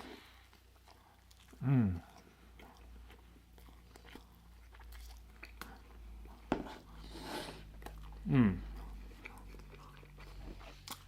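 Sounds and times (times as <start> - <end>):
wet chewing mouth sounds: 0.0 - 11.0.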